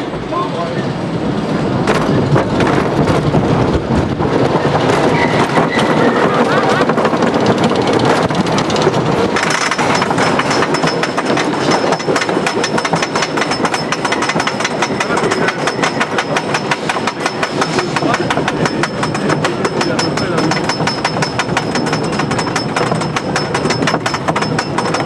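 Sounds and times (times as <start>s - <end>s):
lift chain clacking: 4.4s - 25.0s.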